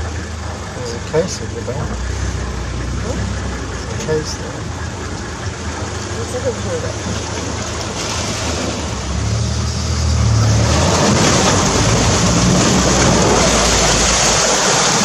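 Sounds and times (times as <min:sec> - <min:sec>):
vehicle engine running: 0:00.0 - 0:15.0
water splashing from wheels: 0:00.0 - 0:15.0.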